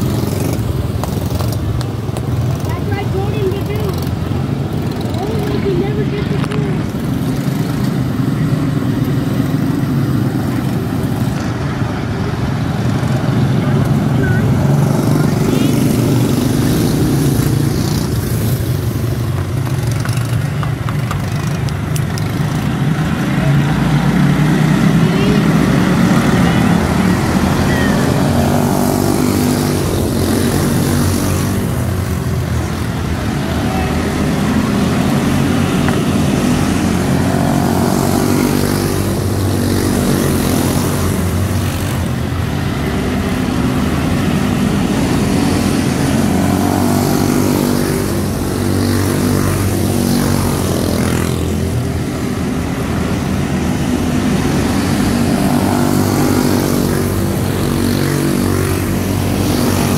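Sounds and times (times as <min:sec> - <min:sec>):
race car engines at full throttle: 0:00.0 - 0:59.9.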